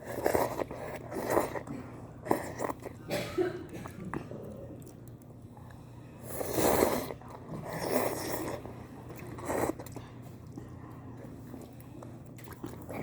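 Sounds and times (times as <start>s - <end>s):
noisy eating of noodles: 0.0s - 13.0s.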